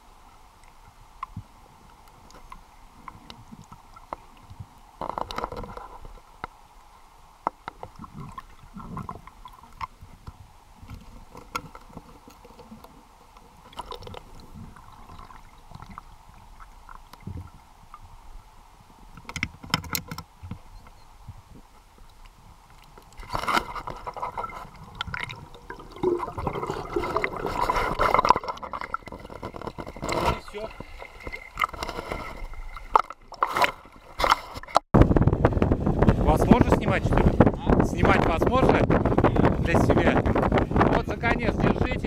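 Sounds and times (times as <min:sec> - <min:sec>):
faint steady hum: 0:00.0 - 0:36.1
underwater gurgling and bubbles: 0:00.0 - 0:36.2.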